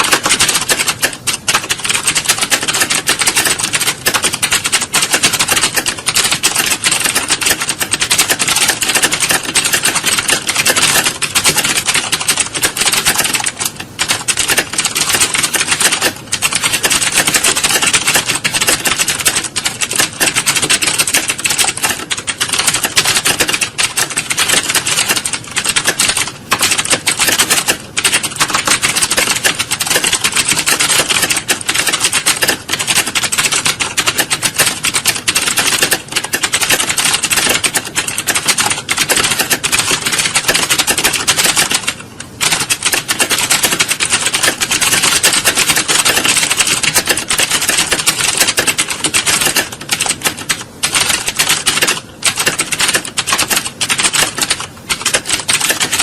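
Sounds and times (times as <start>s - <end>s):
many keyboards typing: 0.0s - 56.0s.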